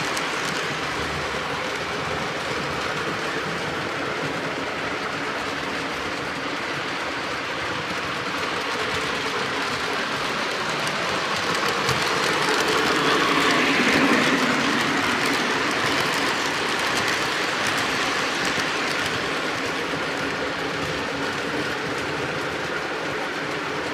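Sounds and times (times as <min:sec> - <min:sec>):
model trains rumbling: 0:00.0 - 0:23.9
wheels clicking over rails: 0:00.0 - 0:23.9.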